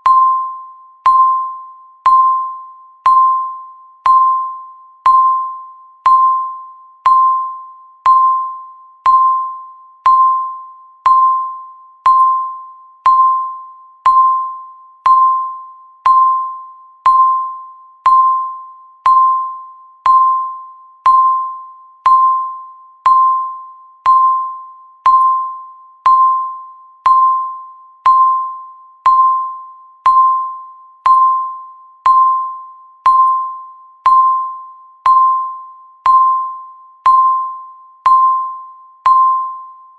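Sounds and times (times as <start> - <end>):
countdown timer beeping: 0.0 - 39.7.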